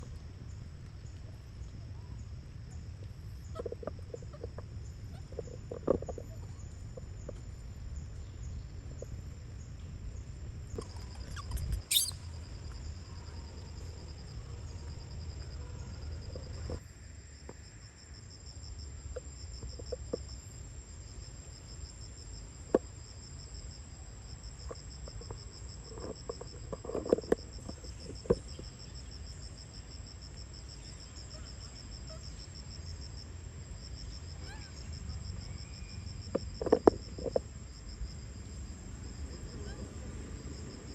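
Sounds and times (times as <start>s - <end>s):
insects trilling: 1.3s - 40.9s.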